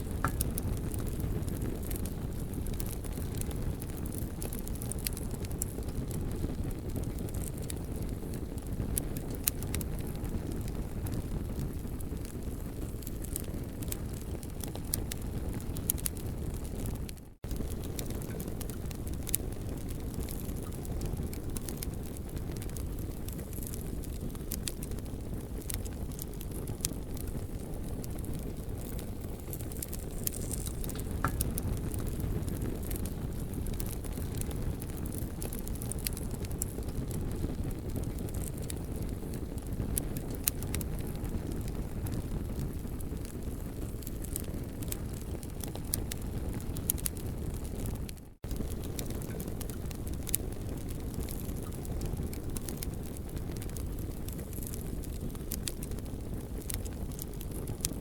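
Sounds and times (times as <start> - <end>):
campfire crackling and popping: 0.0 - 58.0
low rumble of fire: 0.0 - 58.0.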